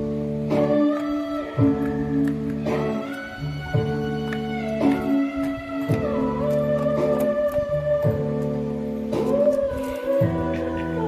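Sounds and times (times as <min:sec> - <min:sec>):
plucked string chords: 0:00.0 - 0:11.0.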